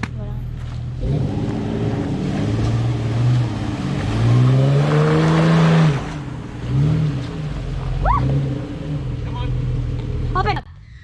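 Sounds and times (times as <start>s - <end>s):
car engine revving: 0.6s - 10.6s.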